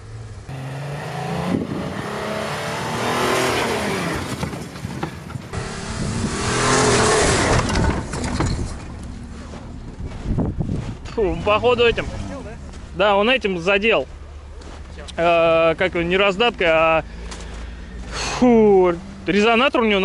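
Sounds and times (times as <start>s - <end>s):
car engine revving: 0.0s - 4.4s, 5.5s - 20.0s.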